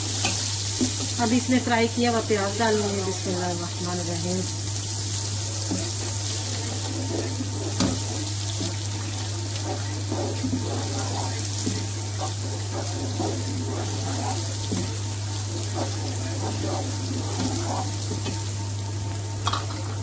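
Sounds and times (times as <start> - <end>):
wooden spatula stirring and scraping: 0.0 - 19.3
onions sizzling in hot oil: 0.0 - 20.0
steady low hum: 0.0 - 20.0.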